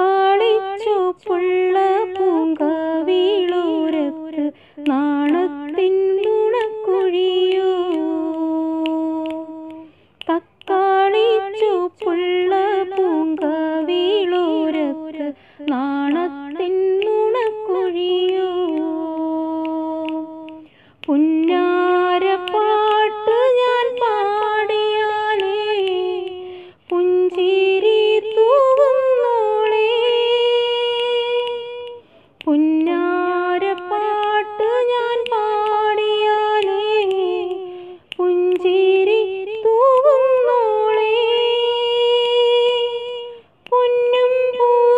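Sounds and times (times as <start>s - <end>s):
woman singing unaccompanied: 0.0s - 44.9s.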